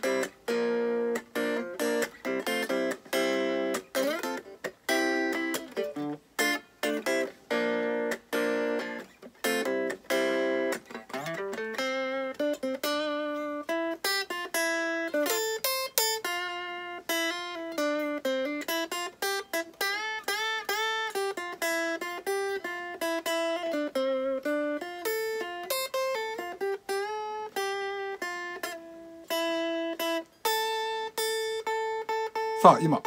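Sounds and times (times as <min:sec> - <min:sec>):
clean electric guitar: 0:00.0 - 0:33.0.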